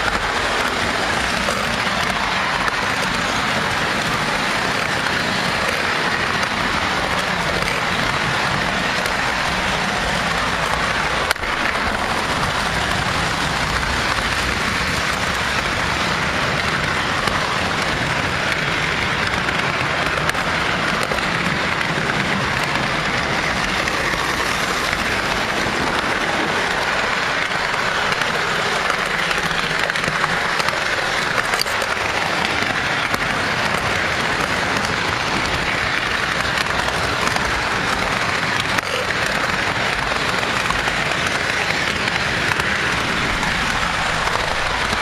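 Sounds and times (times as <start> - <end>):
model train wheels rattling: 0.0 - 45.0.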